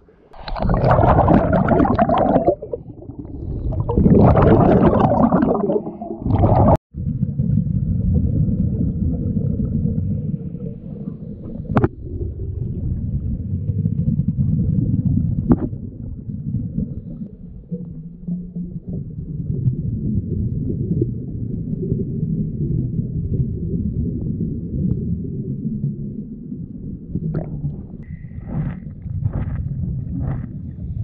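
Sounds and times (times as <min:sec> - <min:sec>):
muffled underwater rumble: 0:00.0 - 0:31.0
regulator bubbles gurgling underwater: 0:00.3 - 0:31.0.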